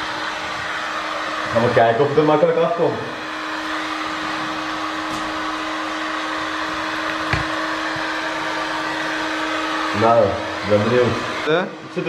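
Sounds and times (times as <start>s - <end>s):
heat gun blowing: 0.0s - 12.0s.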